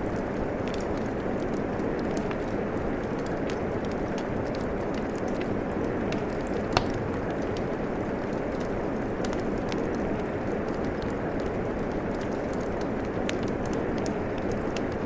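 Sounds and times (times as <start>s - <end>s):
steady falling rain: 0.0s - 15.0s.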